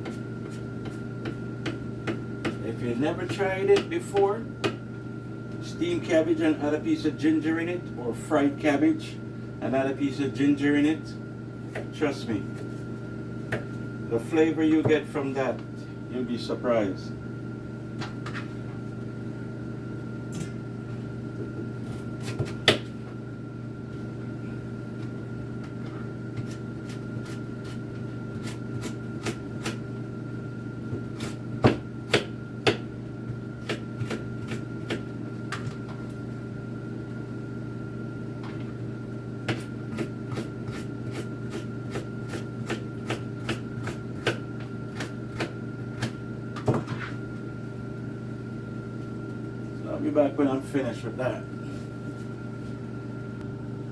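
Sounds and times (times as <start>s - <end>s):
steady hum: 0.0s - 53.9s.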